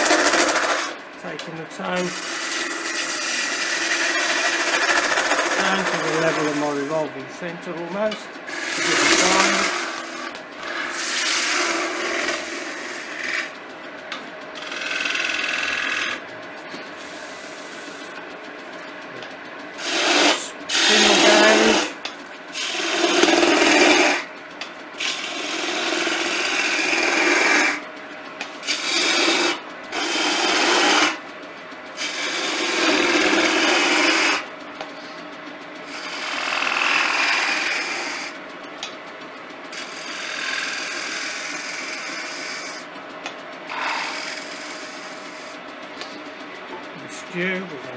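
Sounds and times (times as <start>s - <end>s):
turning tool cutting wood: 0.0s - 13.6s, 14.6s - 16.3s, 17.0s - 18.3s, 19.2s - 31.2s, 31.9s - 35.0s, 35.8s - 38.9s, 39.7s - 46.2s, 46.9s - 47.9s
wood lathe running: 0.0s - 35.2s, 35.8s - 38.9s, 39.6s - 47.9s.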